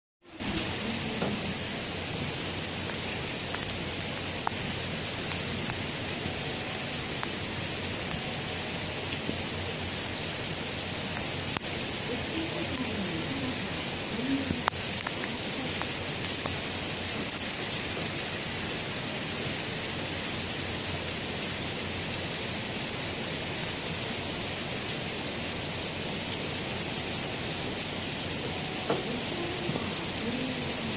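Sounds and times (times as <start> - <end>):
torrential rain pouring: 0.2 - 30.9.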